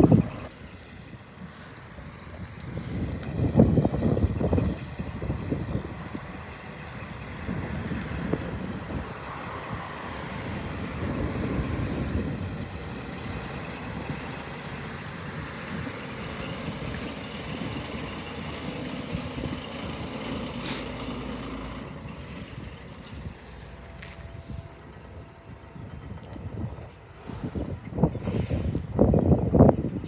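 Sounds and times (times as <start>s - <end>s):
truck diesel engine passing: 0.0s - 29.0s
wind buffeting microphone: 0.0s - 30.0s.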